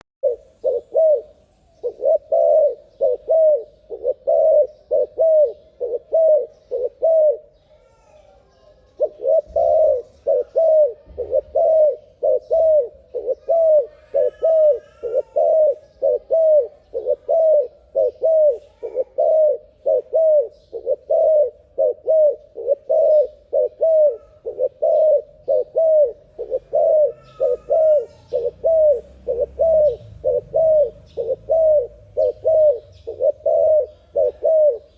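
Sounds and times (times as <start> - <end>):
dove cooing: 0.0 - 34.9
faint bird chirps: 0.2 - 34.9.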